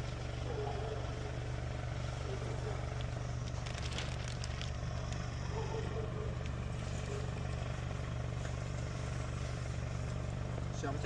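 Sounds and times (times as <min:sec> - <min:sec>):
steady low rumble: 0:00.0 - 0:11.0
faint rustles and clicks: 0:00.5 - 0:10.8.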